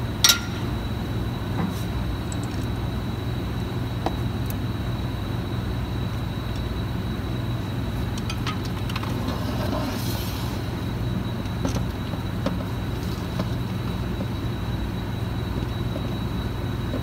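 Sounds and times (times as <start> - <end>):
low rumbling hum: 0.0 - 17.0.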